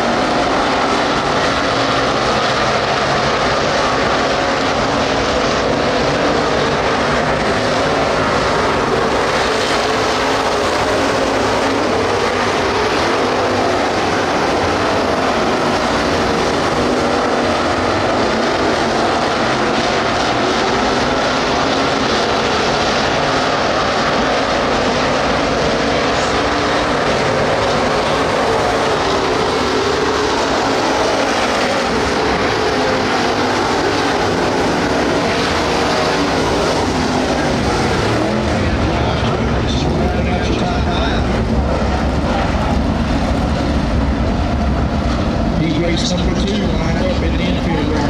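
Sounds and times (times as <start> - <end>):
race car engines droning: 0.0 - 48.0.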